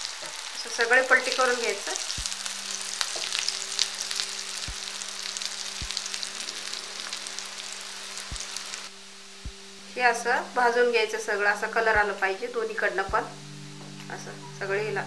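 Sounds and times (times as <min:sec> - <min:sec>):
food sizzling in hot oil: 0:00.0 - 0:14.8.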